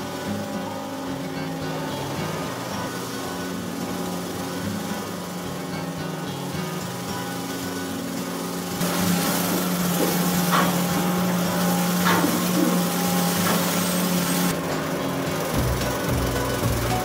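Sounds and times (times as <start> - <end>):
chopped straw rushing: 0.0 - 17.0
straw blower motor hum: 0.0 - 17.0.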